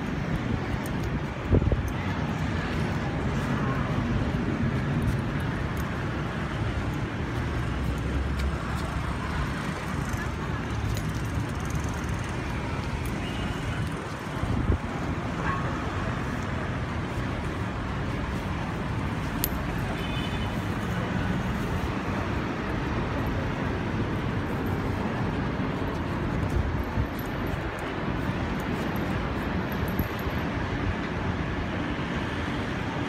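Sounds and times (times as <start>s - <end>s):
low traffic hum: 0.0s - 33.0s.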